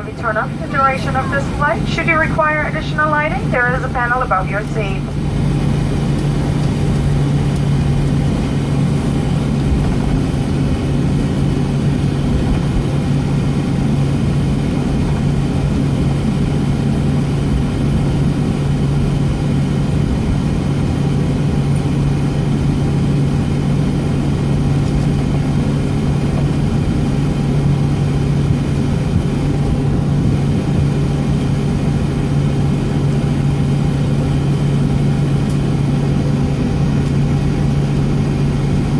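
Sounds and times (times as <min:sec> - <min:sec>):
airplane cabin engine hum: 0:00.0 - 0:38.9.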